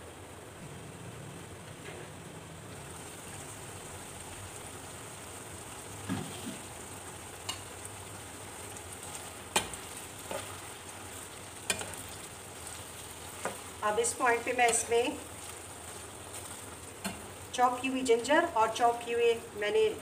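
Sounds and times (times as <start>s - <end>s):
liver sizzling in a frying pan: 2.6s - 20.0s.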